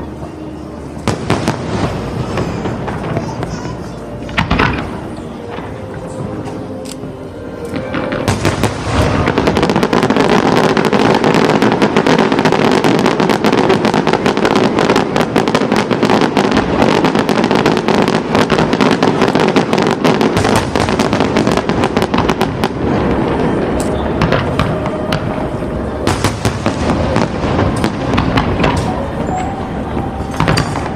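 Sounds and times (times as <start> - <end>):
fireworks cracking and banging: 0.0 - 30.9.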